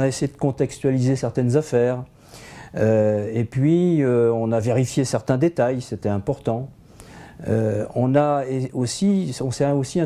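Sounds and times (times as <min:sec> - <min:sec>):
man speaking: 0:00.0 - 0:02.1, 0:02.8 - 0:06.8, 0:07.4 - 0:10.0.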